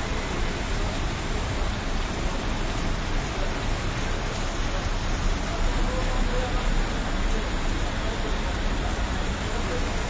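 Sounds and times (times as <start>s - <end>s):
rain on wet street: 0.0s - 10.0s.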